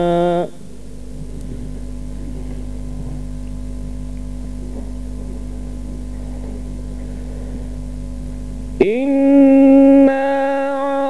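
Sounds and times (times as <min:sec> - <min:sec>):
low electrical hum: 0:00.0 - 0:11.0
microphone hiss: 0:00.0 - 0:11.0.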